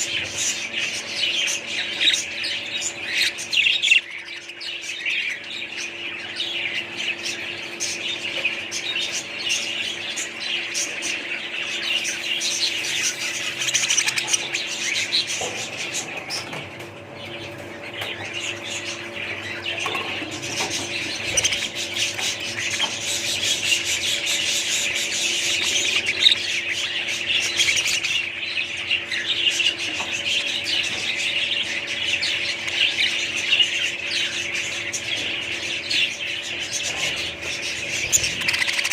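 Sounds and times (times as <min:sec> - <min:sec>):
bird squawks: 0:00.0 - 0:38.9
caged birds chirping and chattering: 0:00.0 - 0:38.9.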